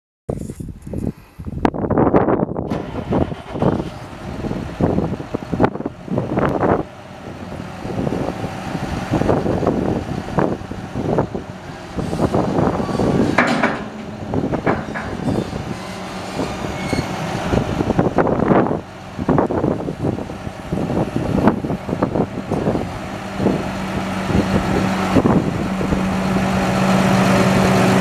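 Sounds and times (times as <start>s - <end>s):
hydraulic loader lifting: 2.7s - 28.0s
tractor diesel engine running: 2.7s - 28.0s.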